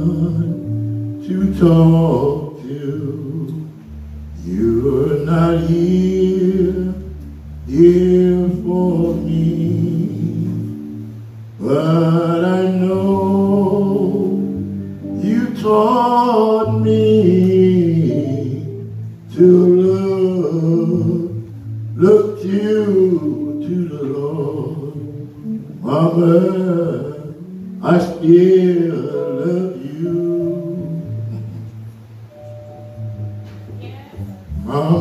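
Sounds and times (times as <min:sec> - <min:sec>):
person singing gospel: 0:00.0 - 0:11.0, 0:11.6 - 0:31.7, 0:34.2 - 0:35.0
instrumental accompaniment with bass: 0:00.0 - 0:35.0.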